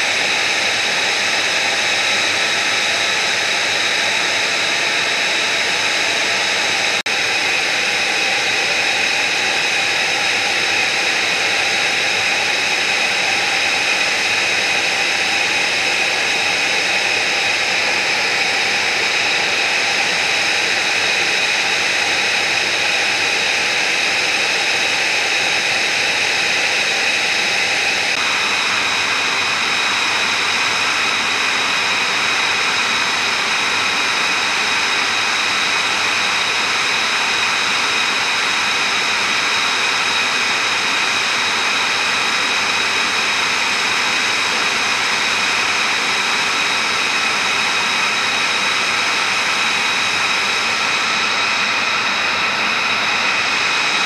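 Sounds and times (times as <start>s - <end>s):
jet turbine whine: 0.0s - 54.0s.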